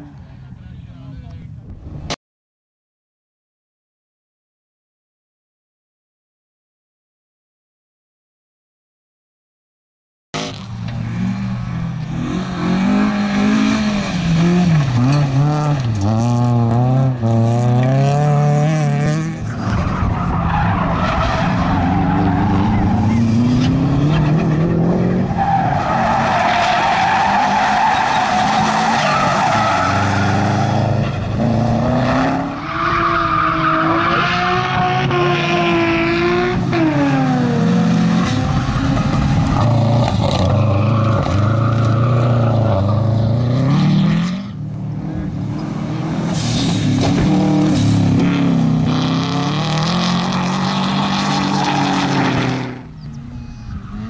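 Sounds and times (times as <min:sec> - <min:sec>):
rally car engines revving: 0:10.4 - 0:54.0.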